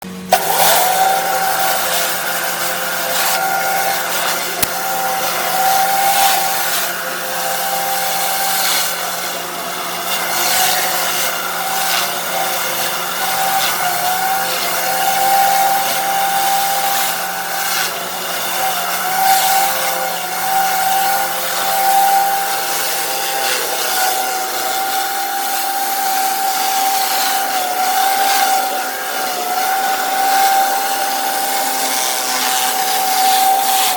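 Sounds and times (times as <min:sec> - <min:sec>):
pressure washer whine: 0:00.0 - 0:33.9.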